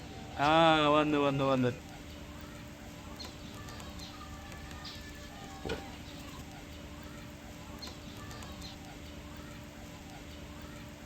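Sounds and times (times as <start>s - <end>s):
steady low hum: 0.0s - 11.0s
small birds chirping: 0.4s - 11.0s.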